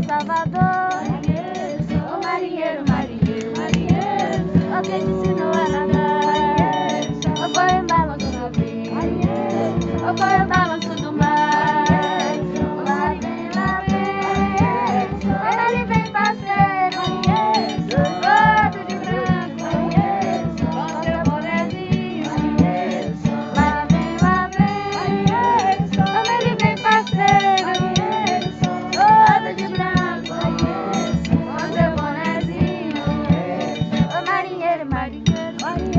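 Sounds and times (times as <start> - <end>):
people singing: 0.0 - 35.9
percussion beat: 0.0 - 35.9.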